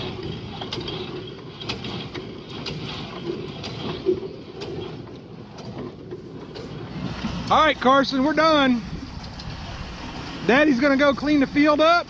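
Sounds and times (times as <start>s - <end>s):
rattling clacks: 0.0s - 12.0s
tractor engine rumbling: 0.0s - 12.0s.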